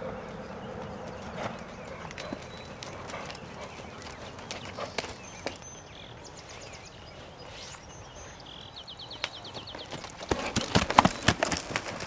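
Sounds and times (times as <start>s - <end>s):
horse hooves on dirt: 0.0s - 12.0s
songbird singing: 0.0s - 12.0s.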